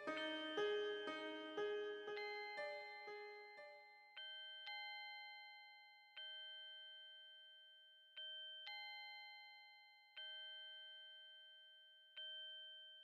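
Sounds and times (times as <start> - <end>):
bell-like chiming notes: 0.0 - 13.0.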